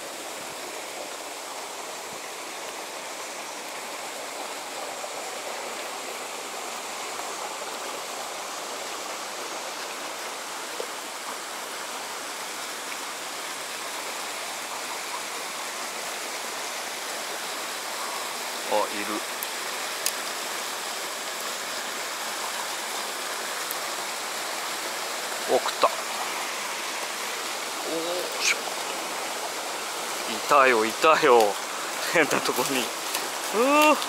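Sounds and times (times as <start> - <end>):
creek water rushing over rock: 0.0 - 34.0.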